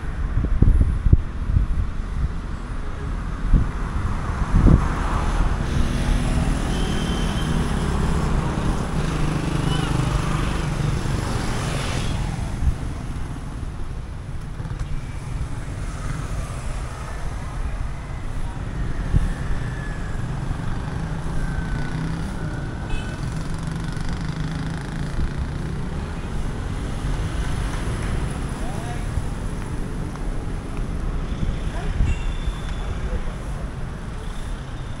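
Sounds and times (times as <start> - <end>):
steady low traffic rumble: 0.0 - 35.0
motorcycles passing: 3.4 - 35.0.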